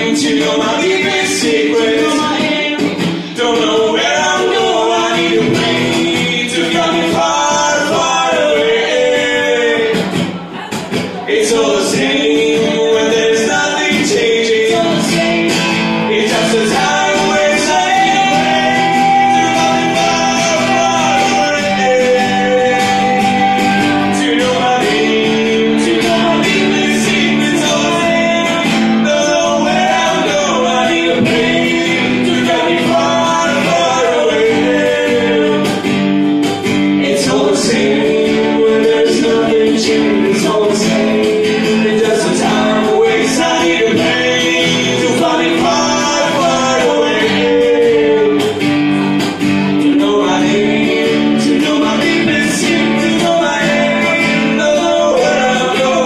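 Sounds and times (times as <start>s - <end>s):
acoustic guitar chords: 0.0s - 56.0s.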